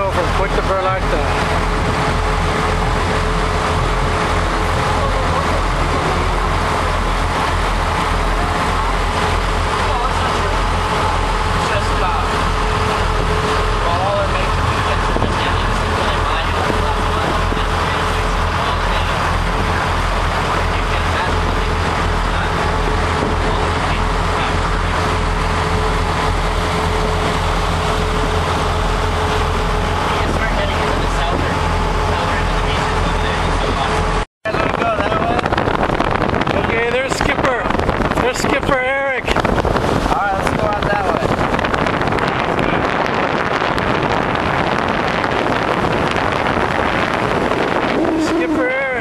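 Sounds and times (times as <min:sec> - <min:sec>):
boat motor humming: 0:00.0 - 0:49.0
water rushing noise: 0:00.0 - 0:49.0.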